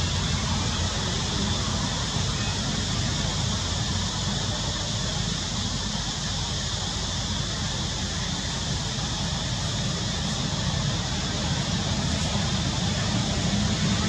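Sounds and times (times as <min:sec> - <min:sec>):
constant high hiss: 0:00.0 - 0:14.0.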